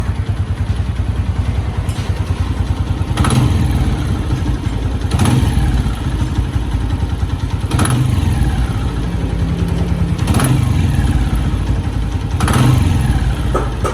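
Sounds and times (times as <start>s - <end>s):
motorcycle engine knocking and missing: 0.0s - 13.9s.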